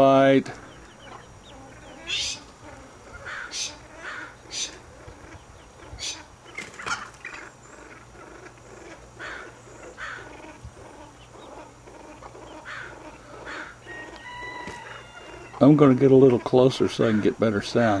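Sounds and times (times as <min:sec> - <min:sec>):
pheasants wing-beating and scuffling: 0:00.0 - 0:18.0.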